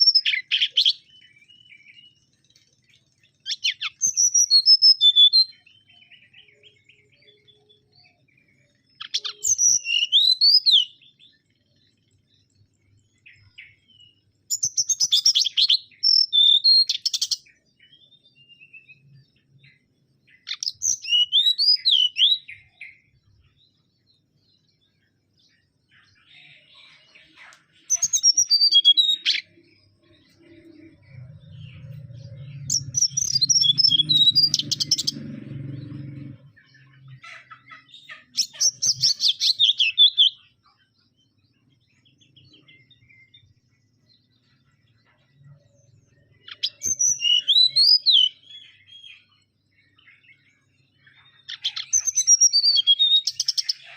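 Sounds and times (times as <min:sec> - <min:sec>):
bird singing whistled notes: 0:00.0 - 0:53.9.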